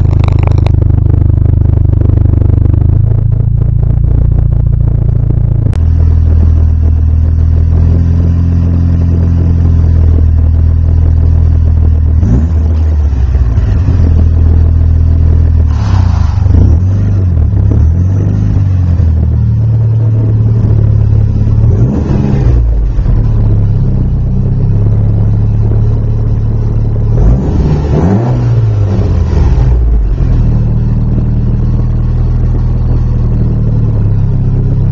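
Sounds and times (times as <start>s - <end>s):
car engine idling: 0.0s - 34.9s
engine throttle blips: 0.0s - 34.9s.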